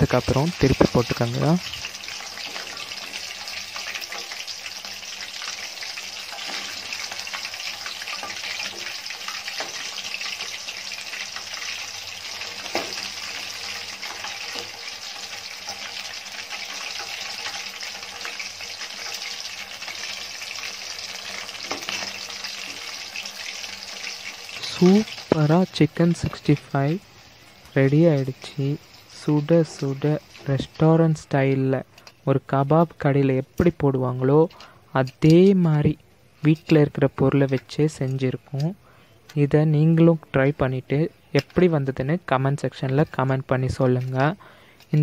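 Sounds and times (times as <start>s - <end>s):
food deep-frying in hot oil: 0.0s - 45.0s.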